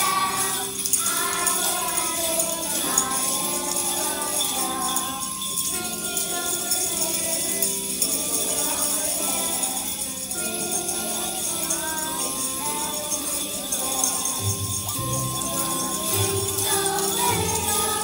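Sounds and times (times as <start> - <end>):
children shaking jingle bells: 0.0 - 18.0
christmas music: 0.0 - 18.0.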